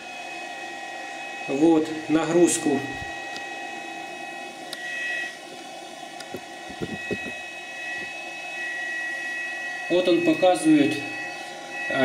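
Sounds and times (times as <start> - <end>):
power inverter drone and whine: 0.0 - 12.0.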